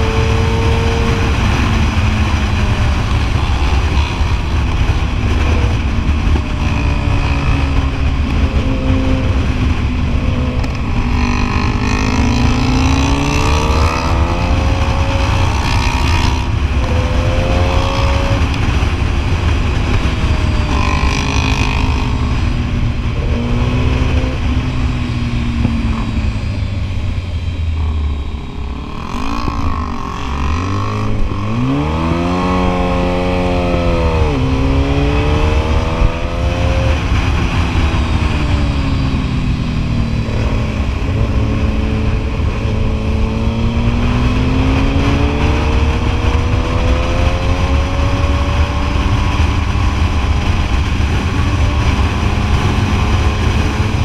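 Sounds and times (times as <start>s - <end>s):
motorcycle engines revving: 0.0s - 54.0s
wind and road noise: 0.0s - 54.0s.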